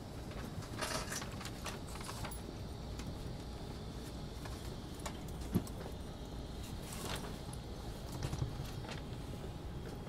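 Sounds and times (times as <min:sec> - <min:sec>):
train car low hum: 0:00.0 - 0:10.0.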